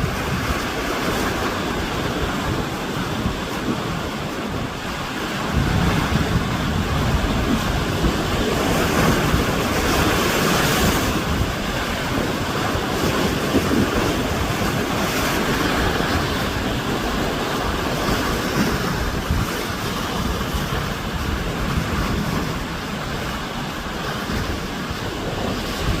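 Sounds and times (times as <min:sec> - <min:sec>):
sea waves breaking ashore: 0:00.0 - 0:26.0
wind buffeting microphone: 0:00.0 - 0:26.0.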